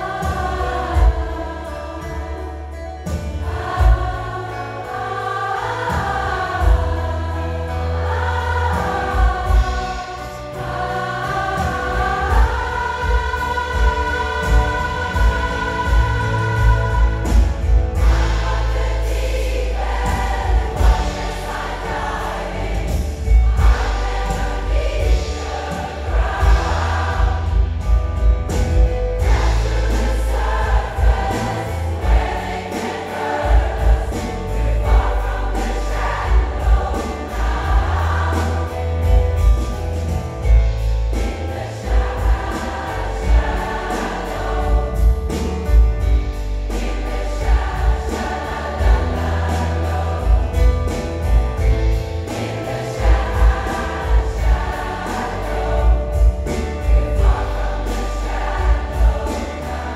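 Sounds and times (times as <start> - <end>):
mixed choir singing: 0.0 - 59.9
piano and band accompaniment: 0.0 - 59.9
pulsing bass beat: 0.0 - 59.9.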